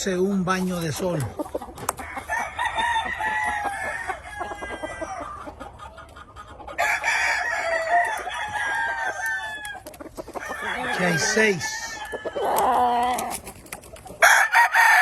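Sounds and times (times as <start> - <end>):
chickens clucking: 0.0 - 15.0
roosters crowing: 1.3 - 15.0.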